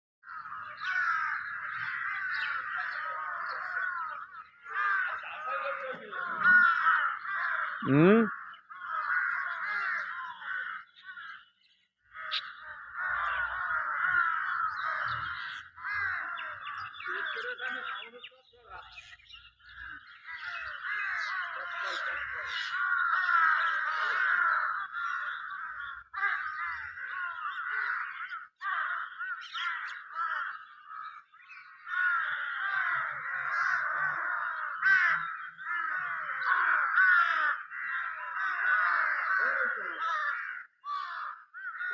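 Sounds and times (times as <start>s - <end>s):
crows cawing: 0.2s - 41.9s.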